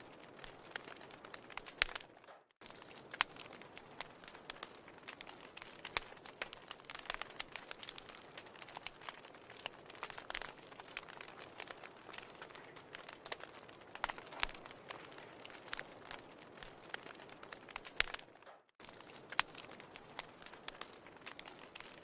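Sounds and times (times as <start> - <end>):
fire crackling in fireplace: 0.0 - 22.0.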